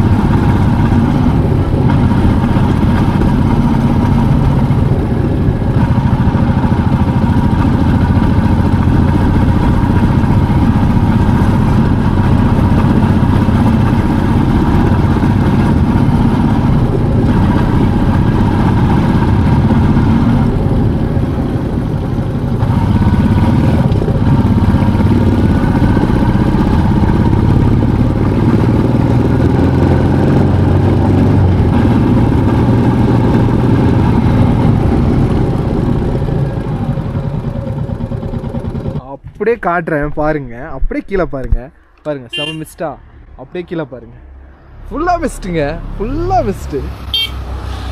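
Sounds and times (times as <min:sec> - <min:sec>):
motorcycle engine under load: 0:00.0 - 0:39.4.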